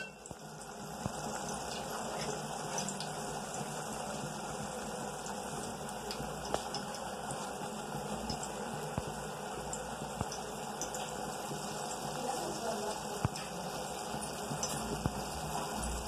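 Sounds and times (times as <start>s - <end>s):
water boiling in a pot: 0.0s - 16.0s.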